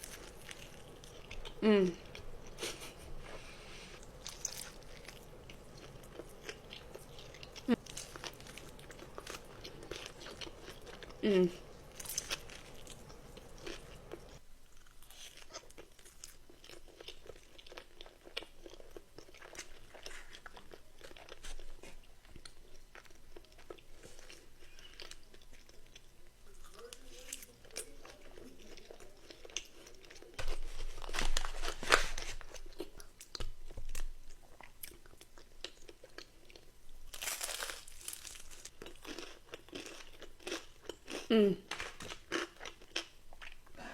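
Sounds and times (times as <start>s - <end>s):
chewing crunchy food: 0.0s - 2.9s, 3.9s - 43.8s.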